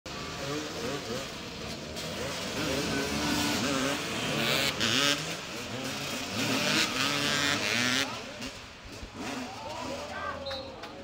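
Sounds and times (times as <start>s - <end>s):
motorcycle engines revving: 0.1s - 11.0s.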